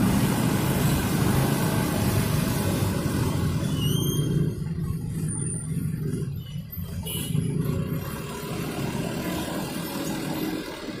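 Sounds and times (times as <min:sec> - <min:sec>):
truck and car engines rumbling: 0:00.0 - 0:11.0.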